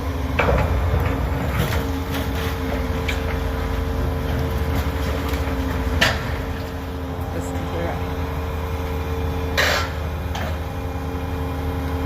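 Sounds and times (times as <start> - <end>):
excavator engine rumble: 0.0 - 12.0.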